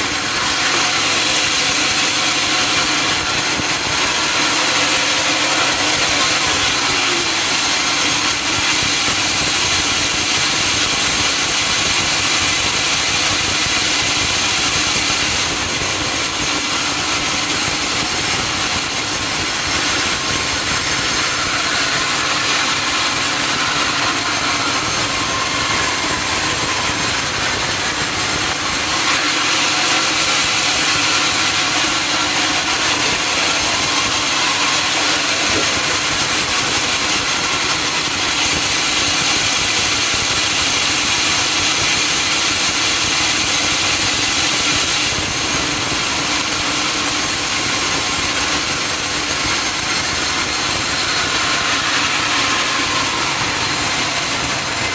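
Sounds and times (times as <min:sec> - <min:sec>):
mill motor running: 0:00.0 - 0:11.4, 0:13.8 - 0:41.2, 0:47.9 - 0:54.9
saw blade whining through wood: 0:00.0 - 0:45.4, 0:46.4 - 0:54.9.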